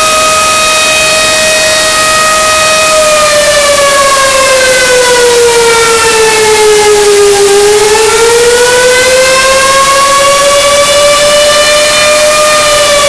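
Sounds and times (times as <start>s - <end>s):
distorted chicken scream: 0.0s - 13.0s.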